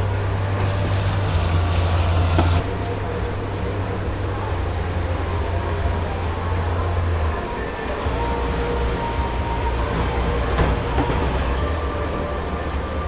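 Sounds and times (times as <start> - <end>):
spraying water hiss: 0.0 - 11.9
low machinery hum: 0.0 - 13.0.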